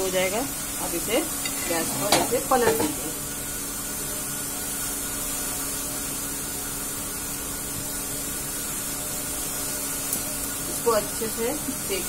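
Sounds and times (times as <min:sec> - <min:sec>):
gas burner flame hissing: 0:00.0 - 0:12.0.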